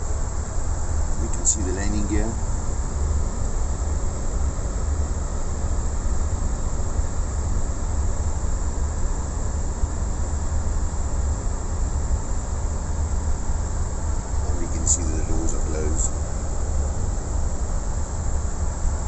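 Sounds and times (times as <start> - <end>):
auxiliary power unit running: 0.0 - 19.0
low rumble in aircraft cockpit: 0.0 - 19.0.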